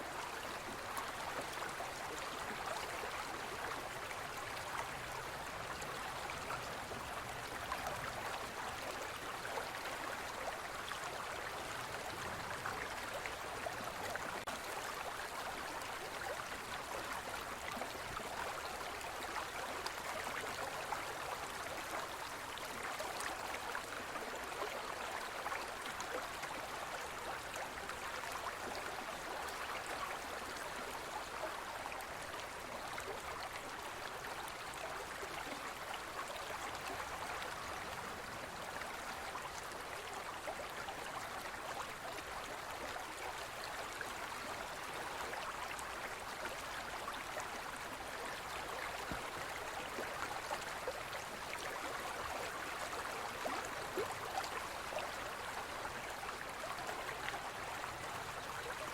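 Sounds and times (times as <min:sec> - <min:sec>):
river water babbling: 0:00.0 - 0:58.9.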